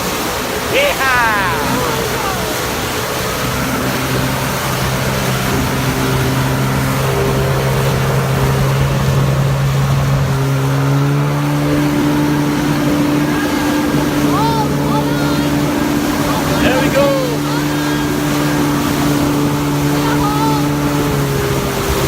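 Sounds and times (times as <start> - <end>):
jet ski engine running: 0.0 - 22.0
water noise: 0.0 - 22.0
wind: 0.0 - 22.0.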